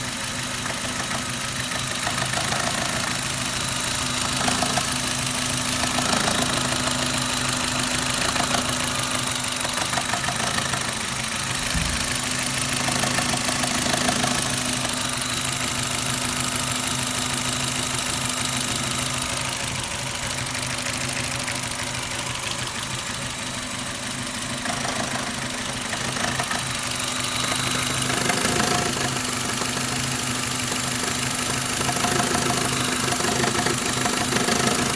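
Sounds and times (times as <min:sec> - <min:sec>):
engine idling with knock: 0:00.0 - 0:34.9.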